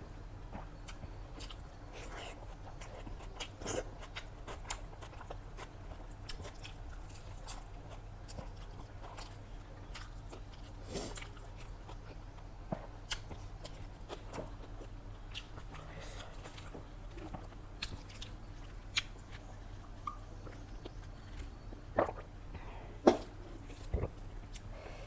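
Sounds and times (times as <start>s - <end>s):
person chewing food: 0.4s - 24.7s.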